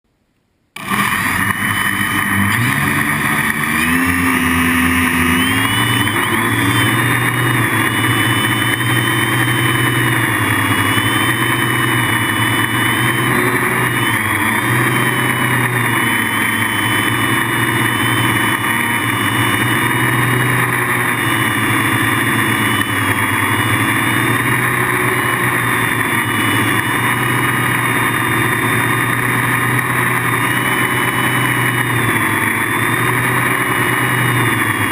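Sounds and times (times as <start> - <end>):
drone buzzing whine: 0.8 - 34.9.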